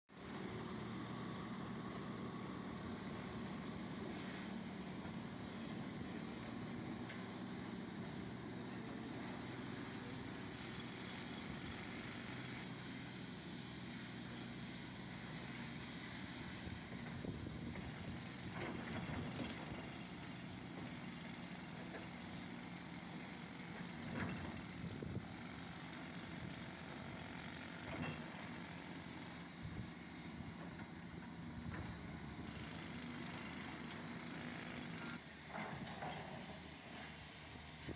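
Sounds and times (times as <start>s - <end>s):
excavator diesel engine running: 0.2s - 37.9s.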